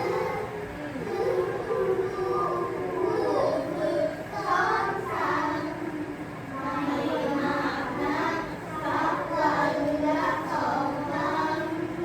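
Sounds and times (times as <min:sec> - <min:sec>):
children chanting a poem: 0:00.0 - 0:12.0.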